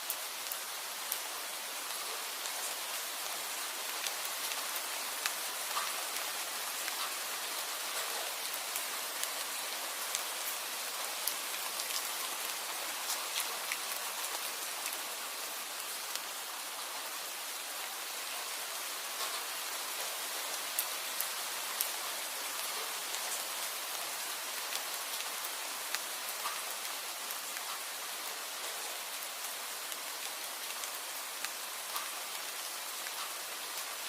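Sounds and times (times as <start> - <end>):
raindrops ticking on hard surfaces: 0.0 - 34.0
steady rain falling: 0.0 - 34.0.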